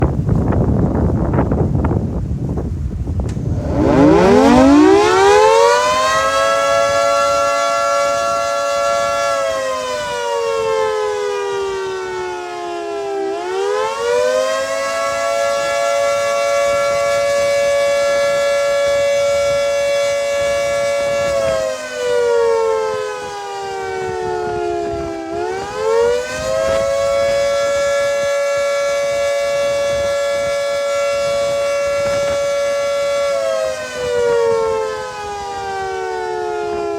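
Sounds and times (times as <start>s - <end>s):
rotating tornado siren wailing: 3.2s - 36.9s.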